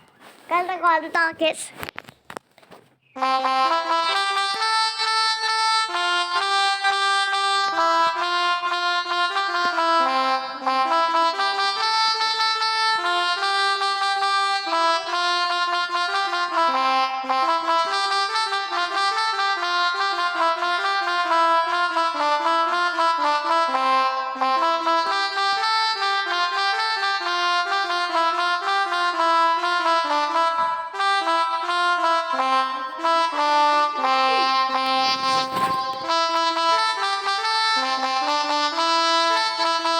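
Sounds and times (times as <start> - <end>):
melodica app playing melody: 3.2 - 39.9.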